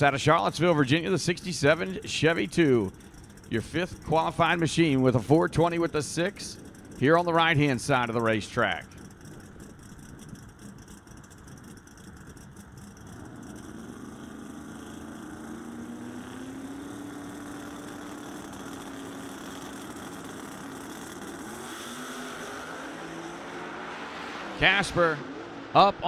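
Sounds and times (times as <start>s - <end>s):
drag race car engines revving: 0.0s - 26.0s.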